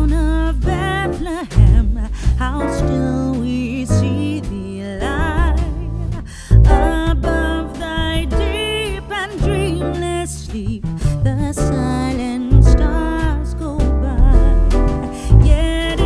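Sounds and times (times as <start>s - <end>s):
steady bass: 0.0s - 16.0s.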